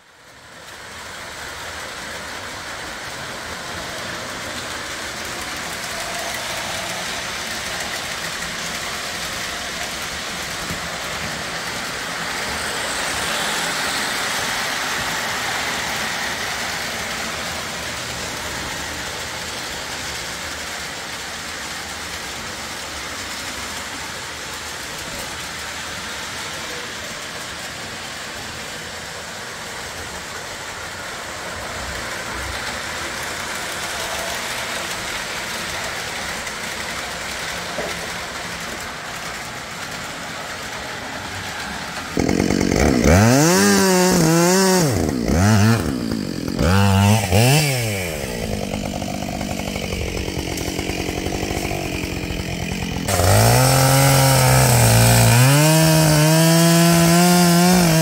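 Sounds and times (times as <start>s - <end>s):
toy electric train running: 0.0s - 58.0s.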